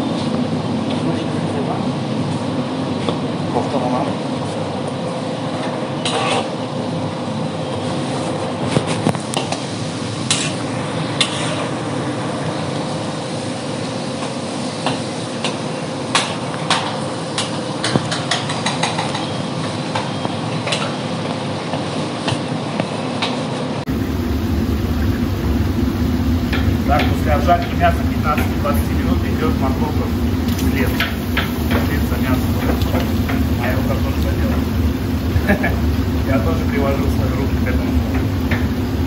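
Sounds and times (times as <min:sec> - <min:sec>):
steady stove rushing noise: 0:00.0 - 0:39.0.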